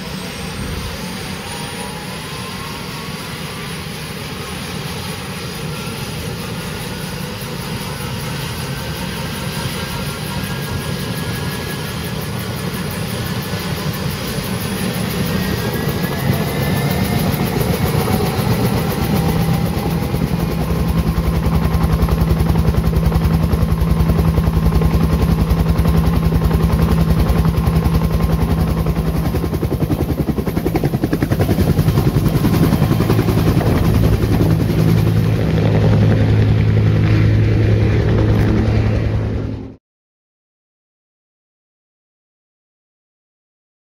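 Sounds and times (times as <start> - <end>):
helicopter rotor beating: 0.0 - 39.8
helicopter turbine whine: 0.0 - 39.8.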